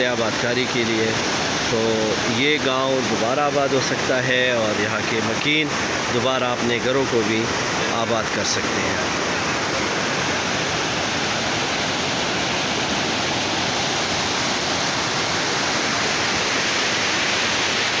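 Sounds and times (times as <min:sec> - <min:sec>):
river rapids rushing: 0:00.0 - 0:18.0.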